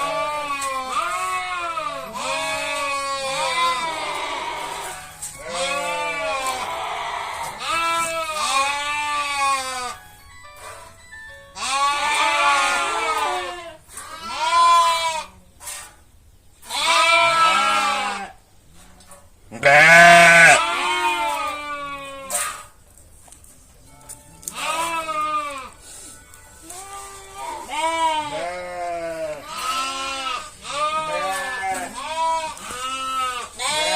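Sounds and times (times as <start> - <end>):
sheep and lambs bleating: 0.0 - 10.0, 11.5 - 15.4, 16.6 - 18.4, 19.5 - 22.6, 24.4 - 26.0, 26.6 - 33.9.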